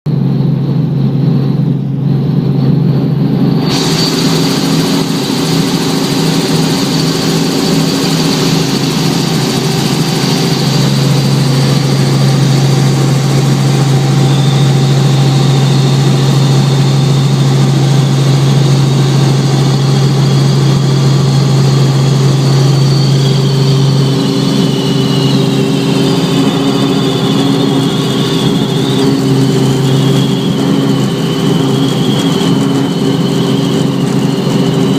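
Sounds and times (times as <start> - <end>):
helicopter rotor and engine drone: 0.1 - 34.9
high whine: 0.1 - 34.9
rushing noise: 0.2 - 34.9.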